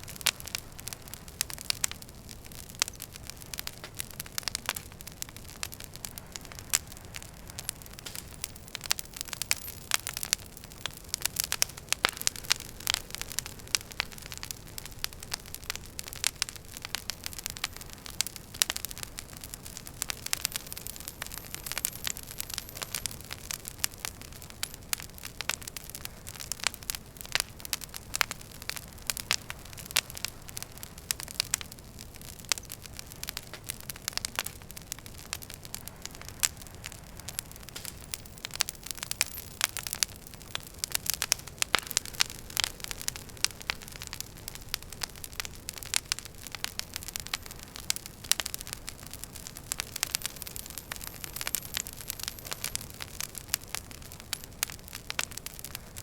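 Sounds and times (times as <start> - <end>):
hiss of burning logs: 0.0 - 56.0
wood fire popping and snapping: 0.0 - 56.0.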